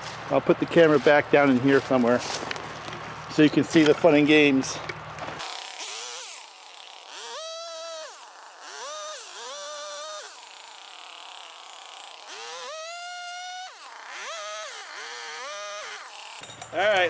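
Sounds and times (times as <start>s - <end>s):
two-stroke chainsaw revving: 0.7s - 16.5s.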